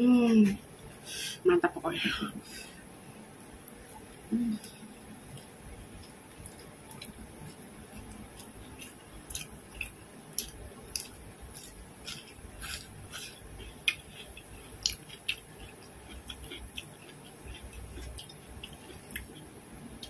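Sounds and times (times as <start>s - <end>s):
person chewing food: 3.6s - 20.0s.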